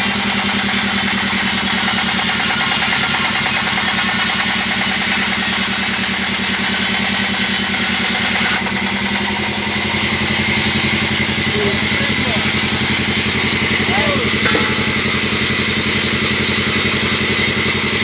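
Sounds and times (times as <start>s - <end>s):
band sawmill droning: 0.0s - 18.0s.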